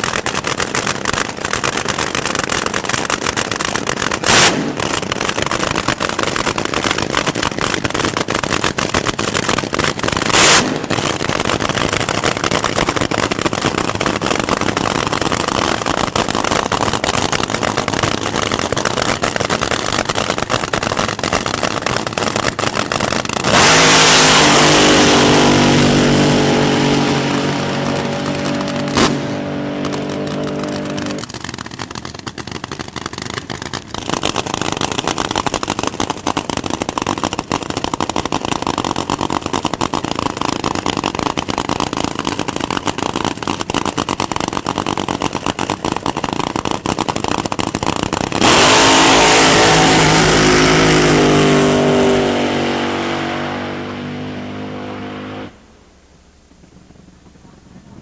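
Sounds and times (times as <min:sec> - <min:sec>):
dragsters launching at full throttle: 0:00.0 - 0:55.8
dragsters idling with crackling exhaust: 0:00.0 - 0:58.0.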